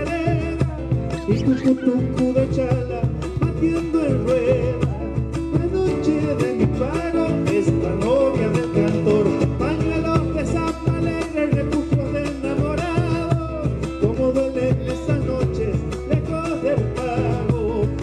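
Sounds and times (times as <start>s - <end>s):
drum beaten with sticks: 0.0s - 18.0s
man singing: 0.0s - 18.0s
strummed acoustic guitar: 0.0s - 18.0s.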